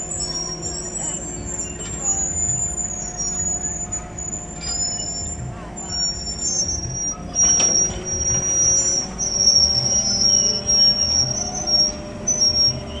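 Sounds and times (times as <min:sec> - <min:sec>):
excavator diesel engine running: 0:00.0 - 0:13.0
high thin squeal: 0:00.0 - 0:13.0
slow low pulsing: 0:00.0 - 0:13.0.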